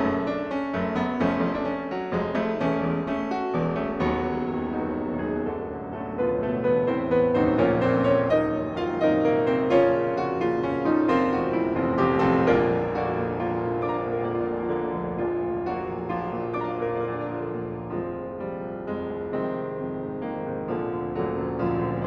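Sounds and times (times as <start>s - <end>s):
solo piano playing: 0.0s - 22.0s.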